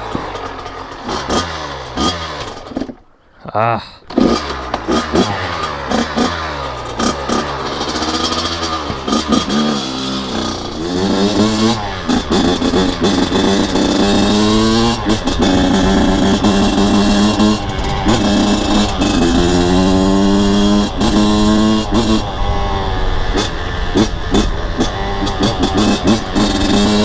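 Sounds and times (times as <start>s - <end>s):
dirt bike engine revving: 0.0s - 3.0s, 4.1s - 27.0s.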